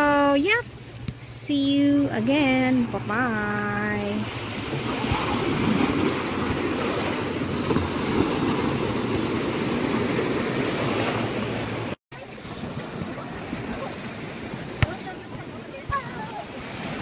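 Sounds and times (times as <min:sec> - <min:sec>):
small waves breaking: 0:00.6 - 0:17.0.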